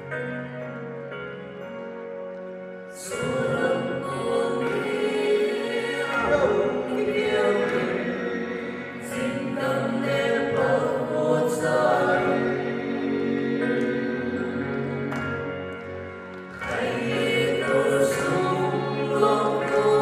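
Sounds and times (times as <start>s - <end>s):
group of voices singing: 3.0s - 15.7s, 16.5s - 20.0s.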